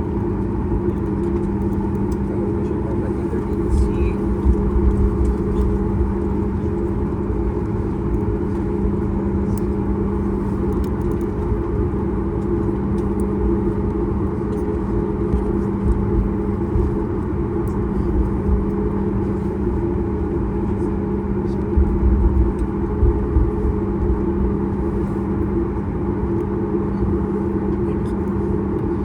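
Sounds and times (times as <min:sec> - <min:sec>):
airplane cabin drone: 0:00.0 - 0:29.0.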